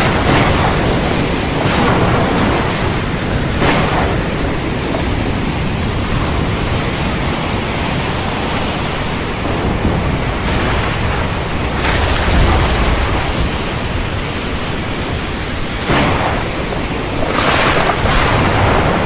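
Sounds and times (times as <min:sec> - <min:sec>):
heavy rain hiss: 0:00.0 - 0:19.0
low thunder rumble: 0:00.0 - 0:19.0.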